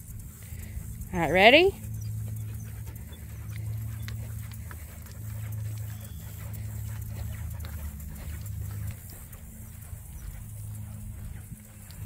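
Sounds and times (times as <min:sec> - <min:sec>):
dogs panting: 0:00.0 - 0:12.0
steady low hum: 0:00.0 - 0:12.0
light ticks: 0:01.8 - 0:12.0.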